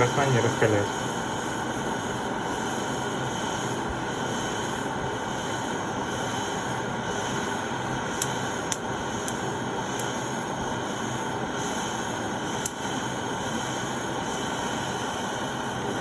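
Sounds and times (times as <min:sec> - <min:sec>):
gas torch flame hissing: 0:00.0 - 0:16.0.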